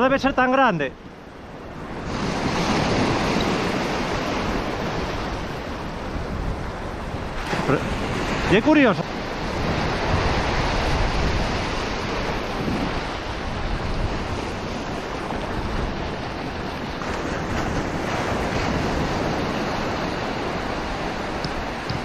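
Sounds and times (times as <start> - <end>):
waves washing over sand: 0.0 - 22.0
wind on microphone: 1.0 - 22.0.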